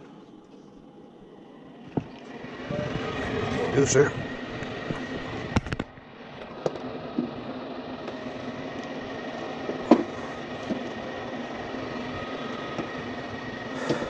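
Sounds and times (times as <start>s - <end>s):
gas furnace humming: 0.0s - 14.0s.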